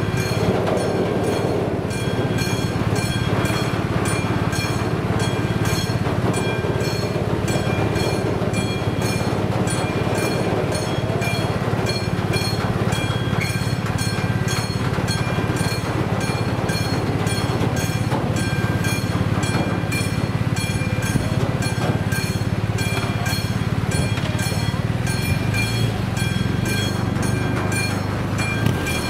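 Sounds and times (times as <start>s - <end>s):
crossing warning bell ringing: 0.0s - 29.0s
train wheels rumbling on rails: 0.0s - 29.0s.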